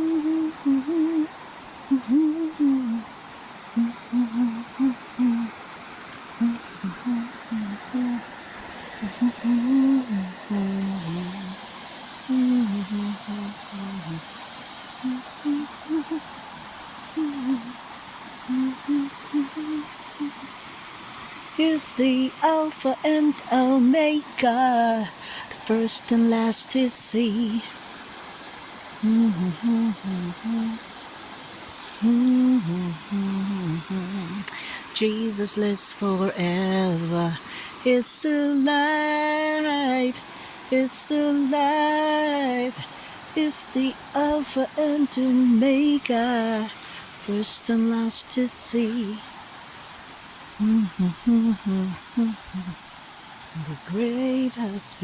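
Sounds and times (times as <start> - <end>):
person humming: 0.0 - 3.1, 3.7 - 5.6, 6.4 - 11.6, 12.3 - 14.3, 15.0 - 16.3, 17.1 - 17.8, 18.5 - 20.6, 21.6 - 27.7, 29.0 - 30.8, 32.0 - 49.2, 50.6 - 52.8, 53.6 - 55.0
faint hiss: 0.0 - 55.0.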